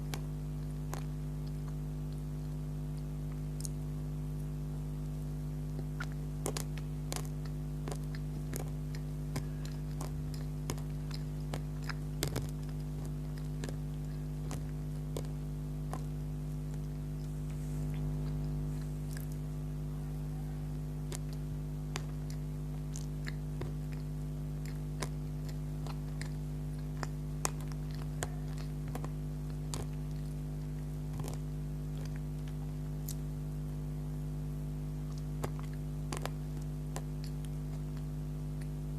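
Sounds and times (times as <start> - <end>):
low electrical hum: 0.0 - 38.9
soft wet chewing: 0.0 - 38.9.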